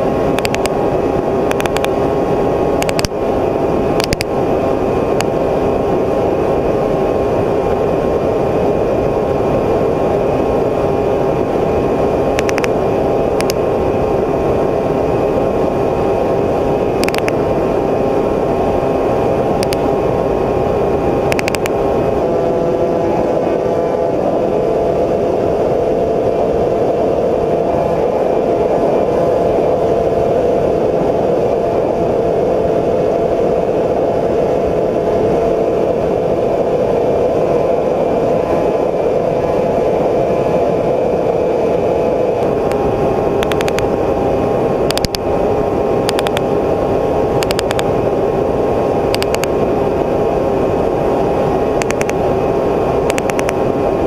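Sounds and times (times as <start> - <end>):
drone motors and propellers whirring: 0.0 - 54.0.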